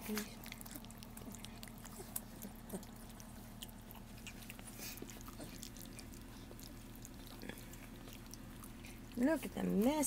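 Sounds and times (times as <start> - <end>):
faint steady hum: 0.0 - 10.0
puppies smacking and licking: 0.0 - 10.0.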